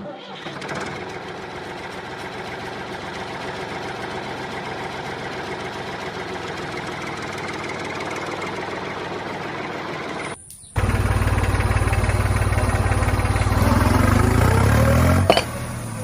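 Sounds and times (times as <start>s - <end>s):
tractor engine idling: 0.1s - 16.0s.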